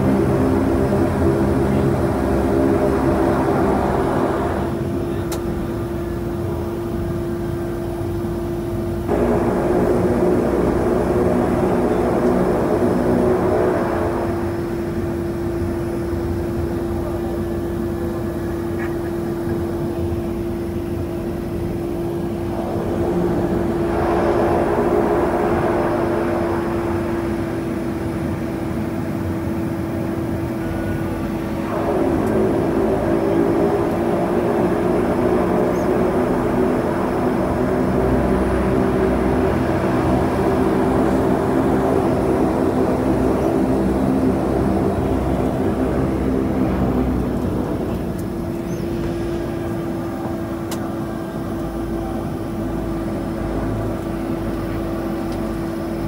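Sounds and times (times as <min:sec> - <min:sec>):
turboprop engines droning in cabin: 0:00.0 - 0:56.0.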